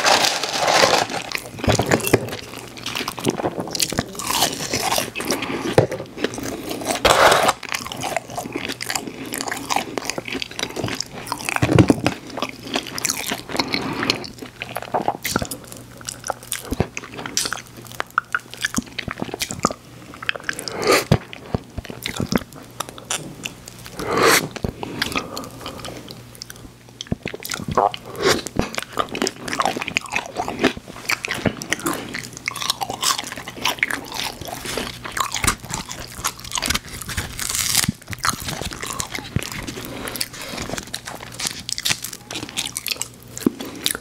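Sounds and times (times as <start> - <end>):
person chewing crunchy food: 0.0 - 44.0.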